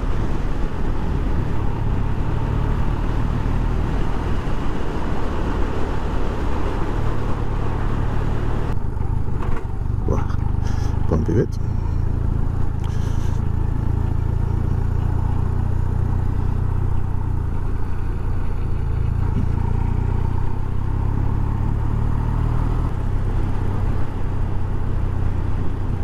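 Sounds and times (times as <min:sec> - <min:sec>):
motorcycle engine running: 0:00.0 - 0:26.0
road noise: 0:00.0 - 0:26.0.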